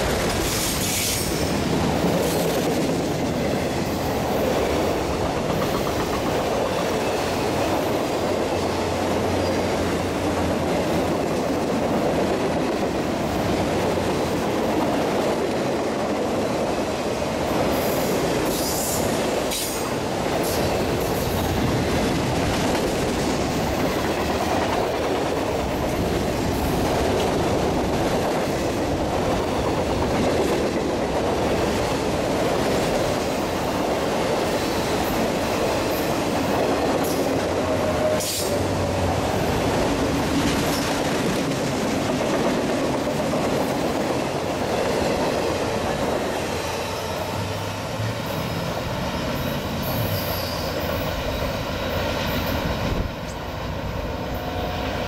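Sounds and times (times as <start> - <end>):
freight cars rumbling on rails: 0.0 - 55.0.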